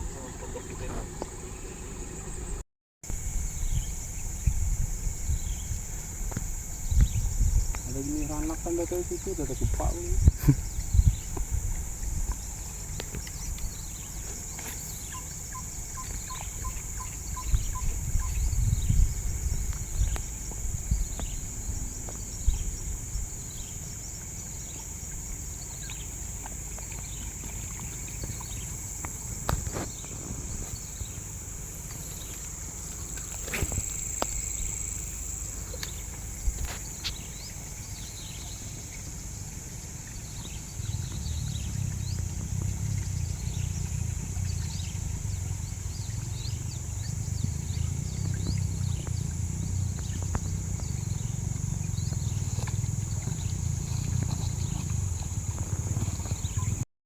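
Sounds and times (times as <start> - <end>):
insects droning: 0.0 - 56.8
low rumbling: 0.0 - 56.8
falling insect chirps: 3.1 - 56.8.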